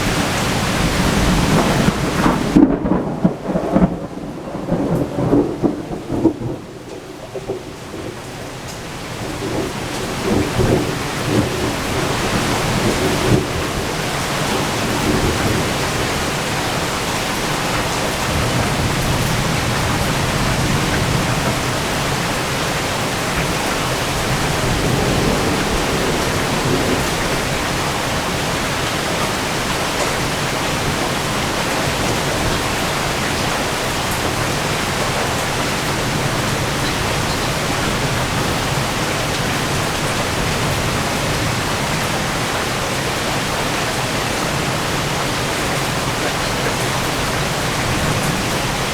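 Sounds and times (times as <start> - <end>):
low rumble of thunder: 0.0 - 42.8
heavy rain pouring: 0.0 - 48.9.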